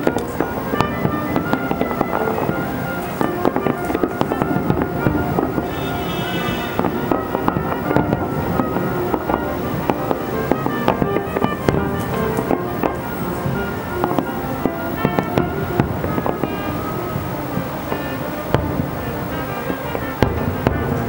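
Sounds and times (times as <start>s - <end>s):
firework shells bursting: 0.0s - 21.0s
music playing: 0.0s - 21.0s.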